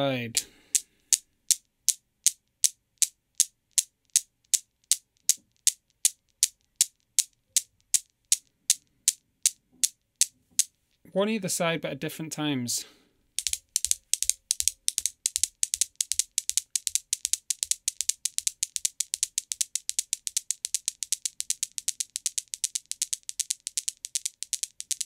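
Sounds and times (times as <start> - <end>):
metal balls clacking: 0.7 - 10.8, 13.4 - 25.0.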